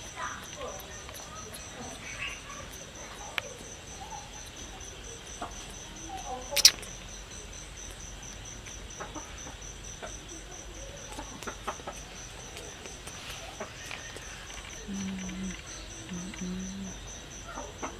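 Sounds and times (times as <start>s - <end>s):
cricket chirping: 0.0s - 17.9s.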